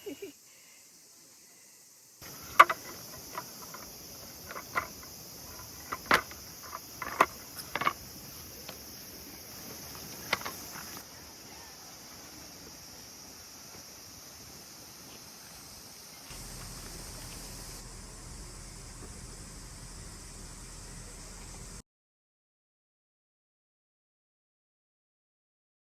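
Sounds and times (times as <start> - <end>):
insects chorus: 0.0 - 21.8.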